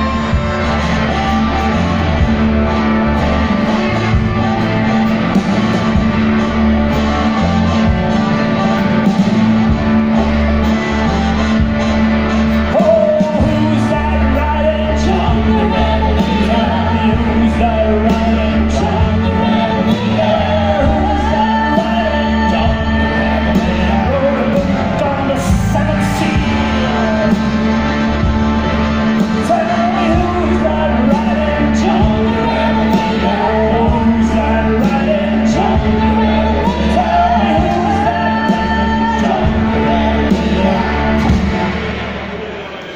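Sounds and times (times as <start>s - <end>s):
blues band playing live: 0.0s - 42.9s
harmonica: 0.0s - 42.9s
person singing: 0.0s - 42.9s.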